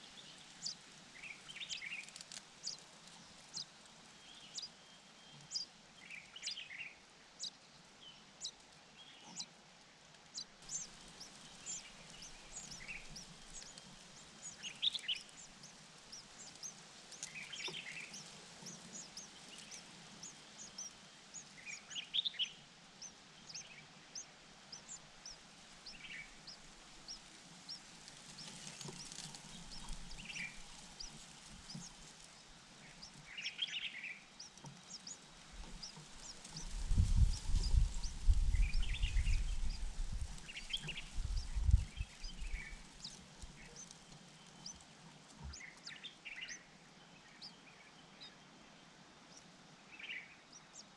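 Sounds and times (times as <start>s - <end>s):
small birds chirping: 0.0s - 9.5s, 10.3s - 48.5s.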